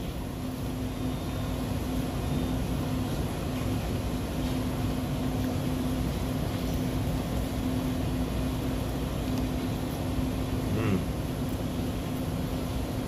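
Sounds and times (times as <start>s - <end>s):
ventilation rushing noise: 0.0s - 13.0s.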